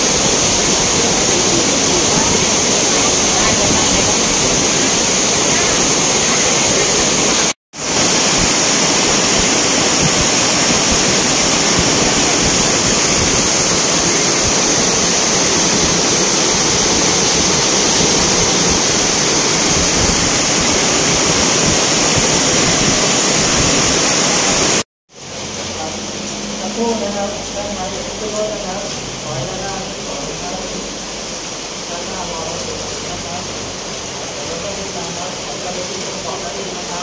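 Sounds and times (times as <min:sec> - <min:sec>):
heavy rain hissing: 0:00.0 - 0:37.0
water rushing down rocks: 0:00.0 - 0:37.0.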